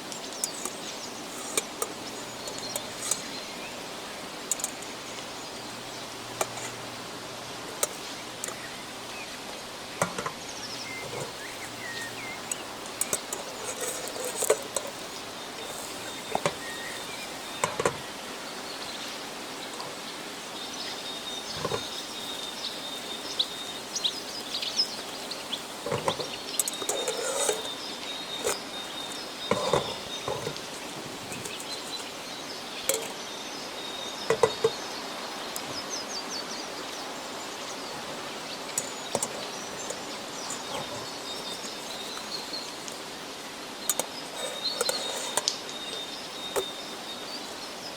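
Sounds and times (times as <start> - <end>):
bird chirps: 7.8 - 47.9.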